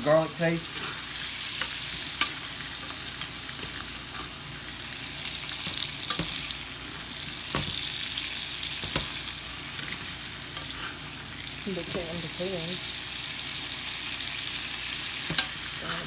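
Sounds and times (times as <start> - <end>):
steak sizzling in skillet: 0.0 - 16.0.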